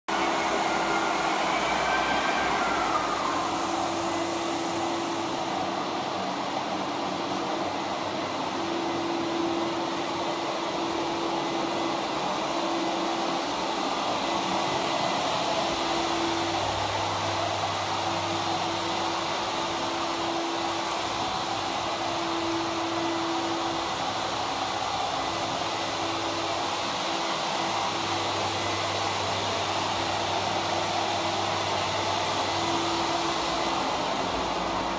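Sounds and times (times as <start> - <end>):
dust extractor drawing air: 0.1 - 34.9
floor sander running: 0.1 - 34.9.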